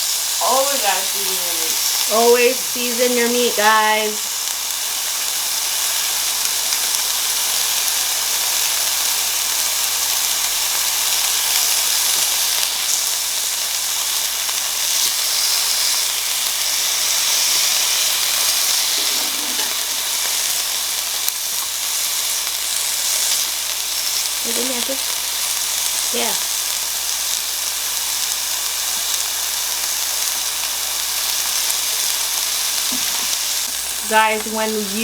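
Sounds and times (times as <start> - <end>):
meat sizzling on grill: 0.0 - 35.0.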